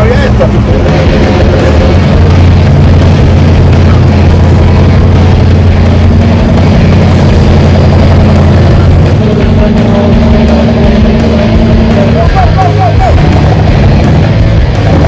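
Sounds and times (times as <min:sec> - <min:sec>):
truck engine running loudly: 0:00.0 - 0:15.0.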